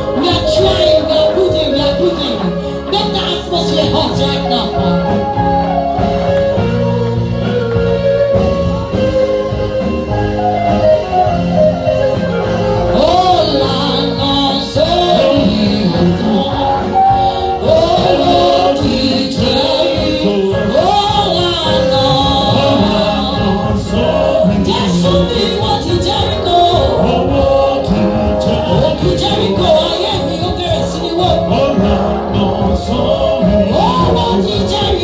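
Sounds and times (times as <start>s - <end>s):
held instrument chords: 0.0s - 35.0s
voices singing: 0.0s - 35.0s.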